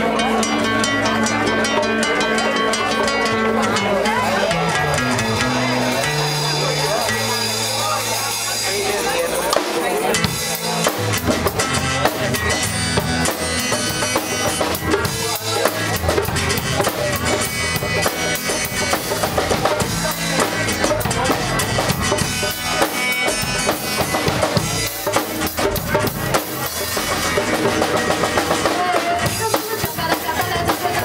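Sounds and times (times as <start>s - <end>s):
drum kit beat: 0.0s - 31.0s
live rock band playing: 0.0s - 31.0s.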